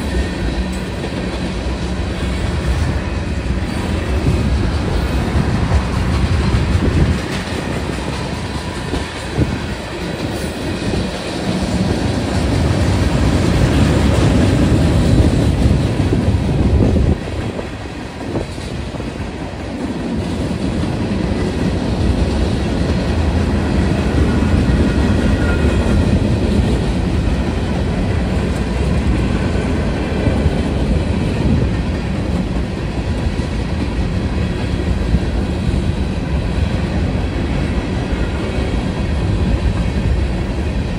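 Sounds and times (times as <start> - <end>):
freight train rumble: 0.0 - 40.9
train wheels clacking over rail joints: 0.0 - 40.9.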